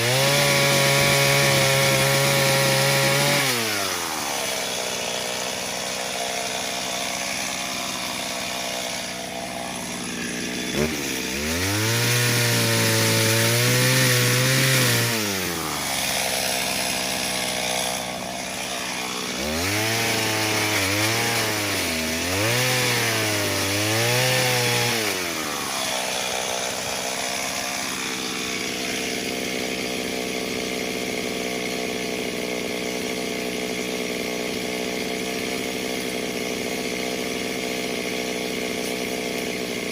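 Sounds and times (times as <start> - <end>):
chainsaw idling and cutting wood: 0.0 - 39.9.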